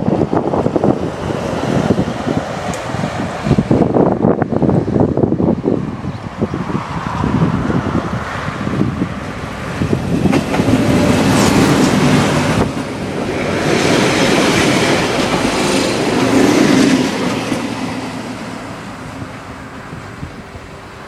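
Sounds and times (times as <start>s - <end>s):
diesel railcar passing: 0.0s - 21.0s.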